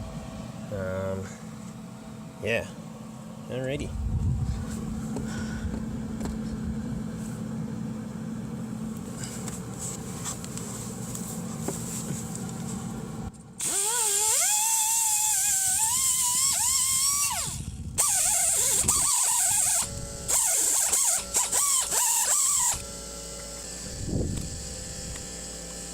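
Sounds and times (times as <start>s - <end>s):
welder humming: 0.0s - 25.9s.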